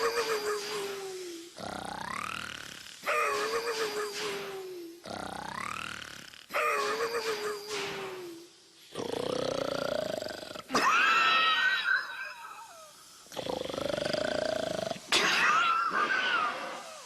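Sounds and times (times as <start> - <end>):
cartoon snoring: 0.0 - 11.2, 12.4 - 17.0.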